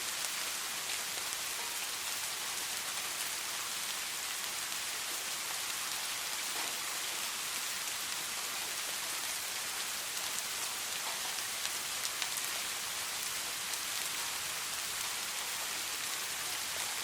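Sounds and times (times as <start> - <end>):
raindrops ticking on surfaces: 0.0 - 17.0
steady rain hiss: 0.0 - 17.0.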